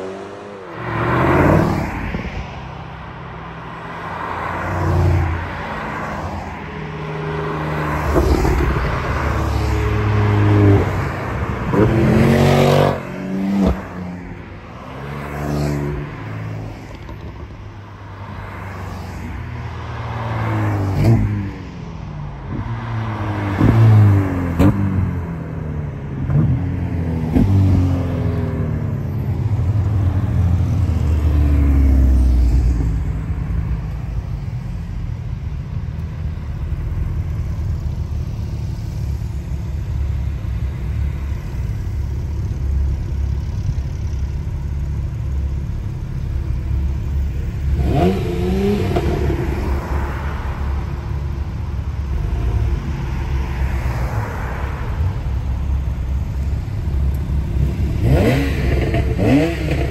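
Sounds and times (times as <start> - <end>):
sports car engines revving: 0.0 - 59.9.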